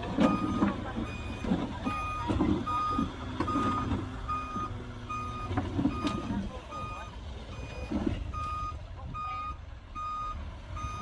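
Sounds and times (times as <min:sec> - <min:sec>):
diesel engine running: 0:00.0 - 0:11.0
reversing alarm beeping: 0:00.2 - 0:11.0.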